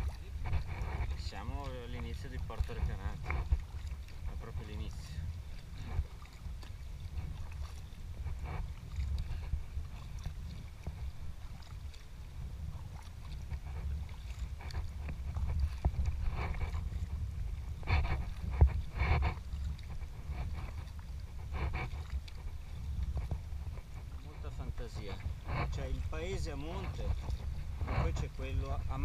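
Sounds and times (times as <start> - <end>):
paddle strokes splashing: 0.0 - 29.0
steady low rumble: 0.0 - 29.0
water sloshing against hull: 0.0 - 29.0.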